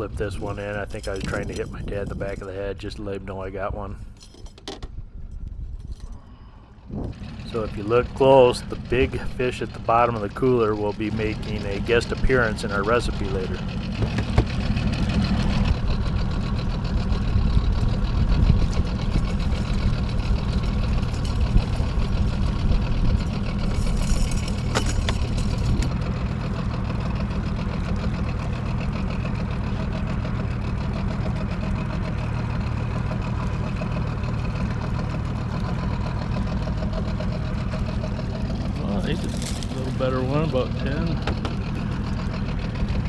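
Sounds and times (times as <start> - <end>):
boat motor droning: 6.2 - 43.0.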